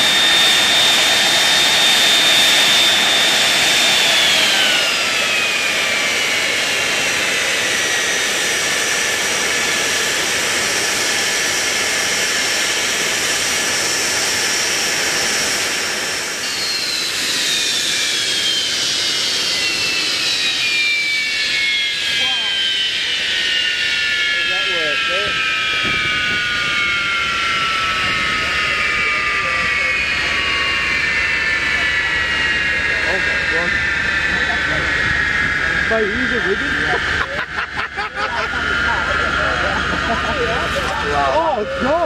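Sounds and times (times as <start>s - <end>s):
jet engines rushing with whine: 0.0s - 42.0s.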